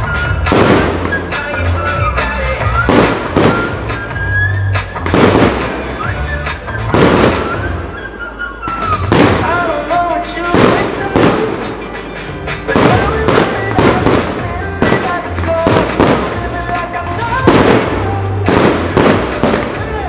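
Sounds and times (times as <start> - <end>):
fireworks bangs: 0.0 - 20.0
music soundtrack: 0.0 - 20.0.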